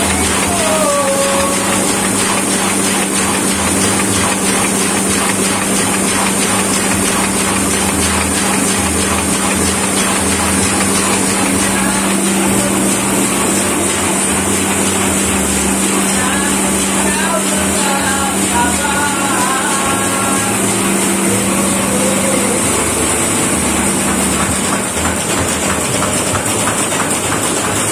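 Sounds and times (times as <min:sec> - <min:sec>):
printing press running: 0:00.0 - 0:27.9
rapid mechanical clatter: 0:00.0 - 0:27.9.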